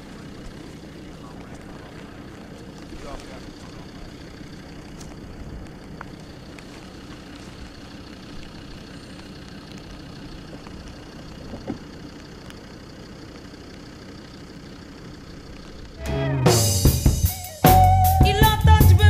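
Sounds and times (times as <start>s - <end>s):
van engine idling: 0.0s - 19.0s.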